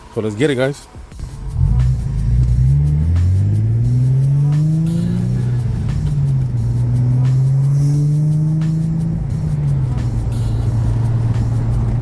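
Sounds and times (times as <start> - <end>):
car engine accelerating: 1.1 - 12.0.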